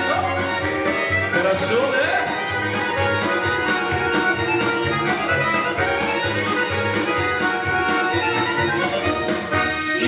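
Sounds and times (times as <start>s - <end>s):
accordion melody: 0.0s - 10.0s.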